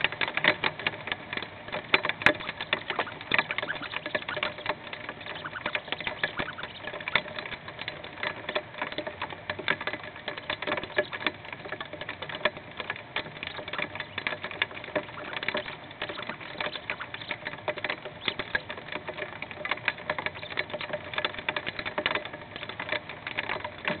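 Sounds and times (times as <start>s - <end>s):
hail pelting a wooden box: 0.0s - 24.0s.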